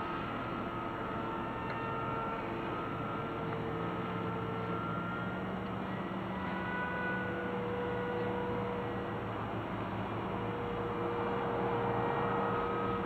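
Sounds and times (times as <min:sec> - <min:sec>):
electric motor whine in flight: 0:00.0 - 0:13.0.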